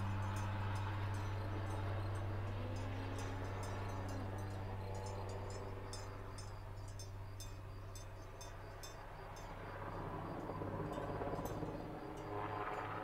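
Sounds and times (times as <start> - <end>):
helicopter rotor and turbine drone: 0.0 - 13.0.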